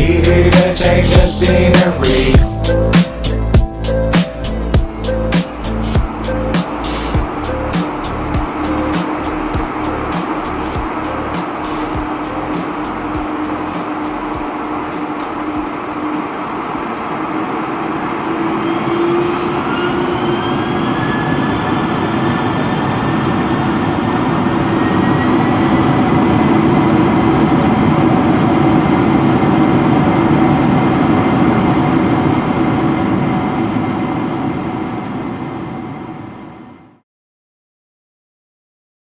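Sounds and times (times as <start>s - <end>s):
jet engines spooling up: 0.0s - 37.0s.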